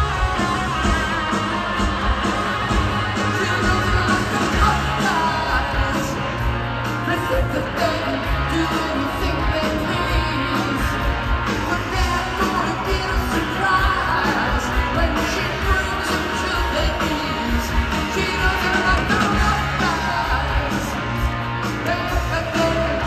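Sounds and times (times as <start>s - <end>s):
live rock band with singing: 0.0s - 23.0s.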